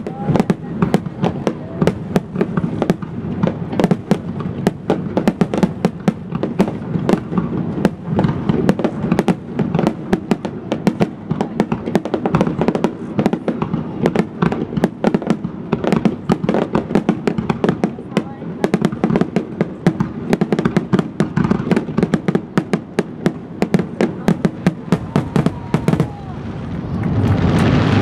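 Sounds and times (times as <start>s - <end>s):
continuous rumble: 0.0s - 28.0s
fireworks bangs: 0.0s - 28.0s.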